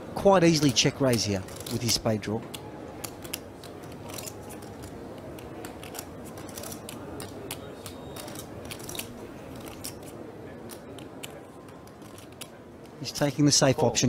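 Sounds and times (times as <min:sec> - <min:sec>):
poker chips clicking: 0:00.5 - 0:13.0.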